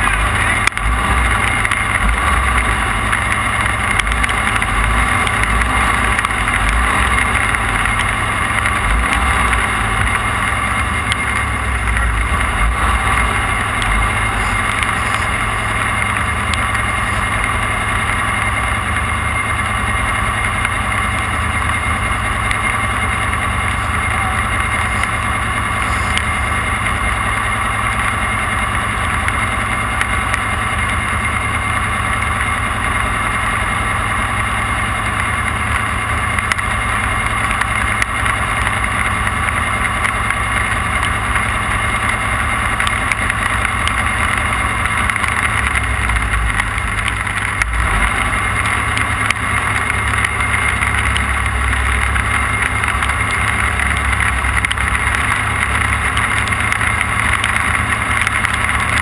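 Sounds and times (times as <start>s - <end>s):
constant low rumble: 0.0s - 59.0s
race vehicle engine running: 0.0s - 59.0s.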